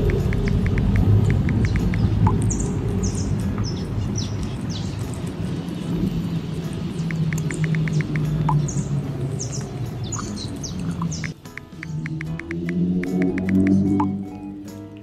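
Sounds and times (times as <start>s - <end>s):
birds chirping: 0.0s - 14.6s.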